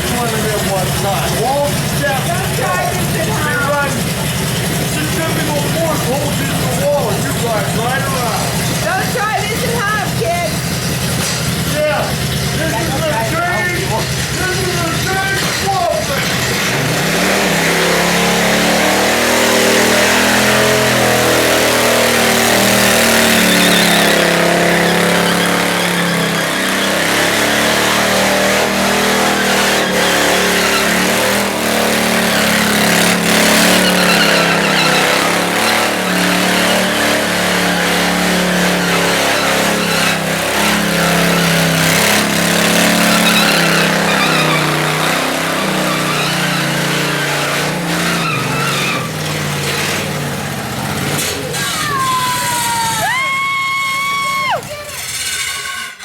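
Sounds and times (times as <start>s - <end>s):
small engine revving: 0.0s - 56.0s.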